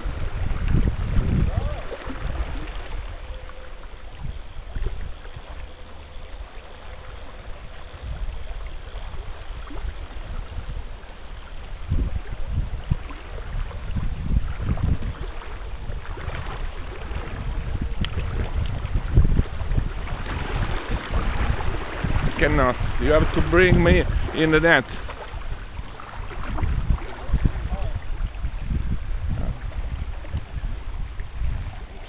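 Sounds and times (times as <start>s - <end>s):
river current over gravel: 0.0s - 32.0s
wind rumble on microphone: 0.0s - 32.0s.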